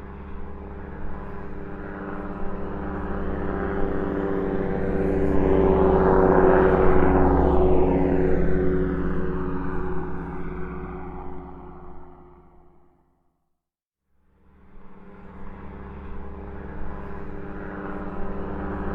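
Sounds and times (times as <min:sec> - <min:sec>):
airplane engine drone: 0:00.0 - 0:12.9, 0:14.4 - 0:18.9.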